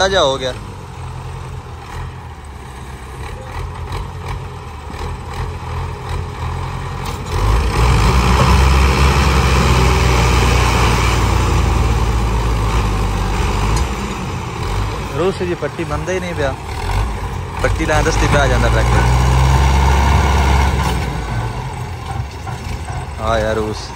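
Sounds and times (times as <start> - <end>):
tractor diesel engines straining: 0.0 - 23.9.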